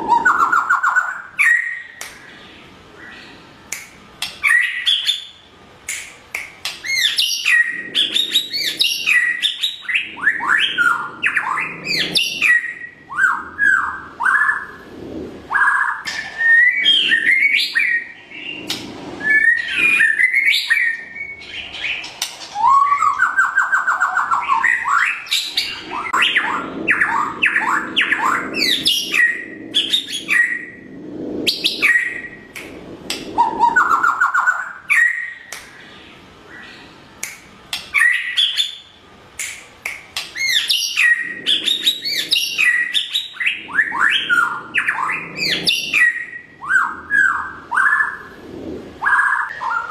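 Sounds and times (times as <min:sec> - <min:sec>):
bird singing whistles and trills: 0:00.0 - 0:02.4, 0:04.4 - 0:05.5, 0:06.8 - 0:14.8, 0:15.5 - 0:32.6, 0:33.3 - 0:35.8, 0:37.9 - 0:39.0, 0:40.3 - 0:48.3.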